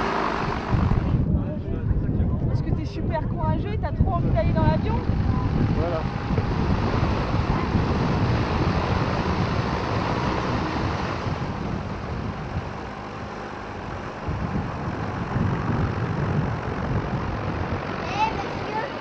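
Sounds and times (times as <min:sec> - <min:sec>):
light aircraft engine idling: 0:00.0 - 0:02.2, 0:03.8 - 0:19.0
wind buffeting microphone: 0:00.0 - 0:19.0.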